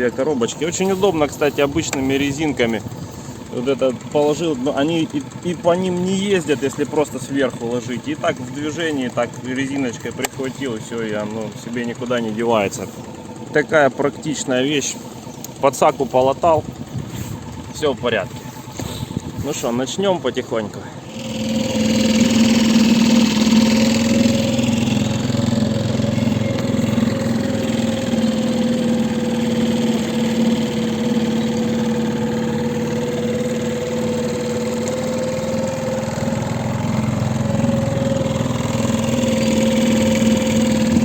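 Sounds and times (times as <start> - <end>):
outboard motor running: 0.0 - 41.0.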